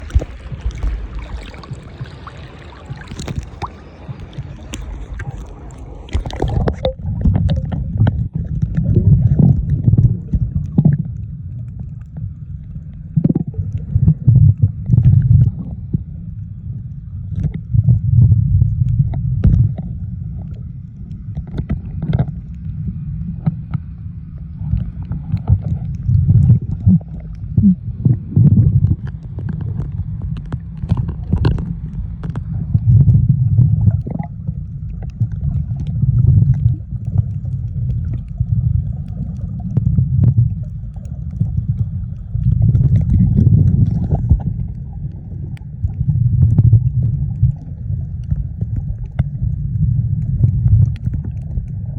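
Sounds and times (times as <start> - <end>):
clicks and crackles: 0.0 - 1.8, 2.9 - 15.7, 18.6 - 23.9, 24.6 - 51.9
muffled underwater rumble: 0.0 - 51.9.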